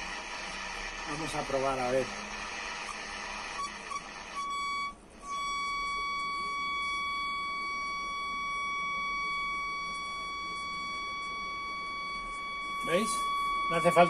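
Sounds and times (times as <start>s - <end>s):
high test tone from radio speaker: 0.0s - 14.0s.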